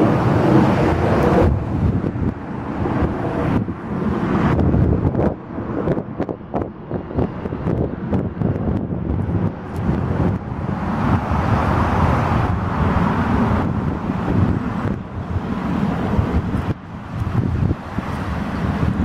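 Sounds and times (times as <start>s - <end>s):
paddle boat running: 0.0s - 8.2s, 9.1s - 19.0s
wind buffeting microphone: 0.0s - 19.0s.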